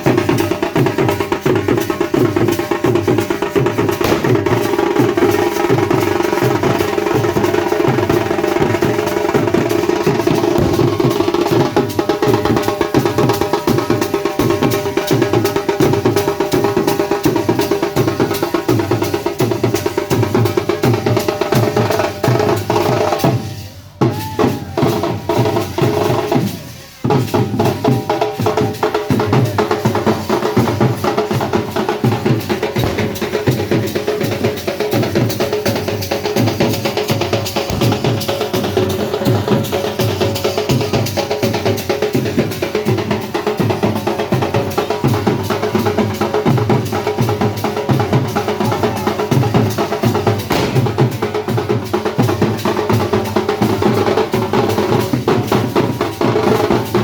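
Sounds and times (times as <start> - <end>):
barrel drum beaten fast: 0.0 - 57.0.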